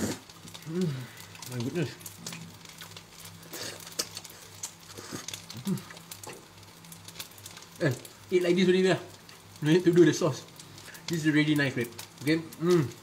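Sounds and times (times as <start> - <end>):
noodles sizzling in frying pan: 0.0 - 13.0.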